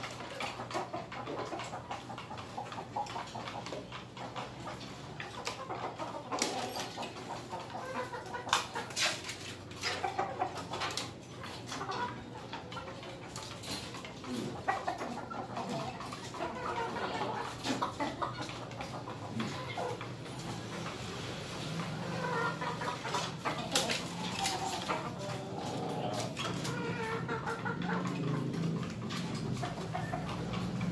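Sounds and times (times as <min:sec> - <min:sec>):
chickens clucking: 0:00.0 - 0:30.9.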